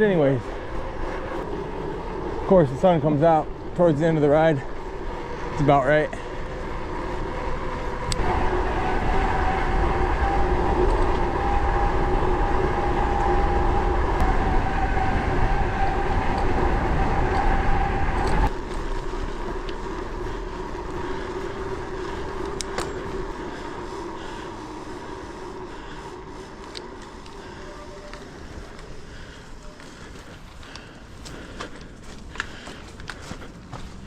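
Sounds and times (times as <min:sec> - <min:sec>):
bike tyres rolling on road: 0:00.0 - 0:34.0
wind rumble on microphone: 0:00.0 - 0:34.0.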